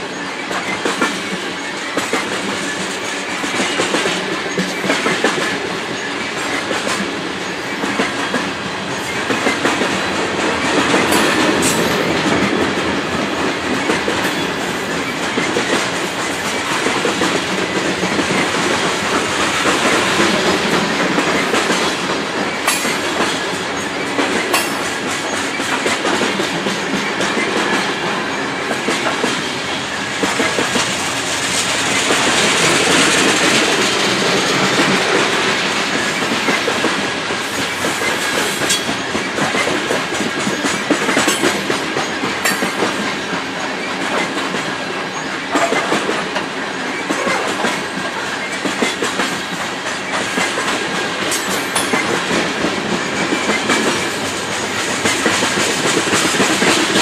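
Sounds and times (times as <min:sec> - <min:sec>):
train wheels clicking over rail joints: 0:00.0 - 0:57.0.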